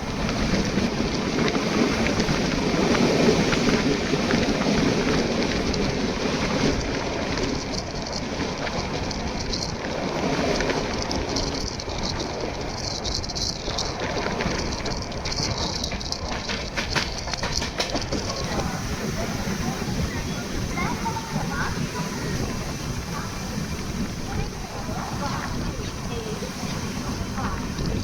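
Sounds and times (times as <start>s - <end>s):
short clicks of train wheels: 0.0s - 28.0s
train wheels rumbling and rattling: 0.0s - 28.0s.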